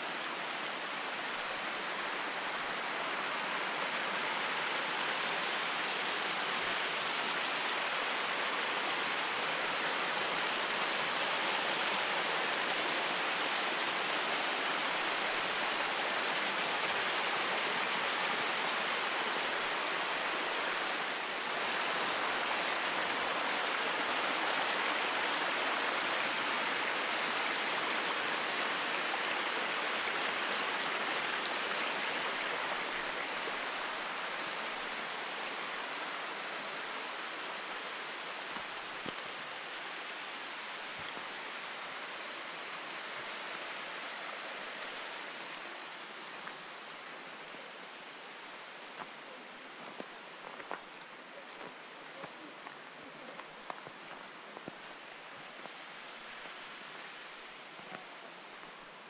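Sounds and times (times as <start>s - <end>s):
mountain stream rushing: 0.0s - 59.0s.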